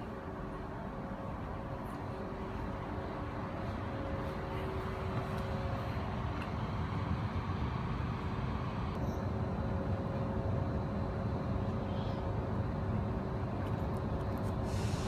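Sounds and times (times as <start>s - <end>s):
faint steady tones: 0.0s - 15.0s
train carriage ventilation hum: 0.0s - 15.0s.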